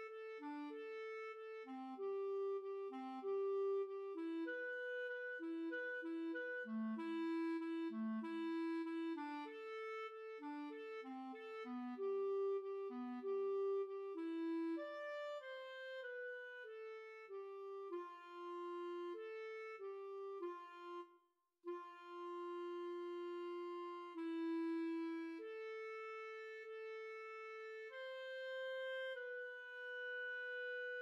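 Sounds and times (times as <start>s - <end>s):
clarinet playing: 0.0s - 21.1s, 21.7s - 31.0s.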